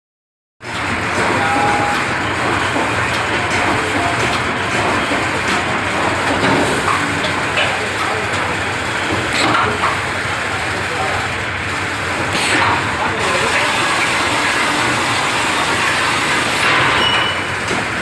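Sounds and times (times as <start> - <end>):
machine clacks: 0.6 - 18.0
welding machine mechanical din: 0.6 - 18.0.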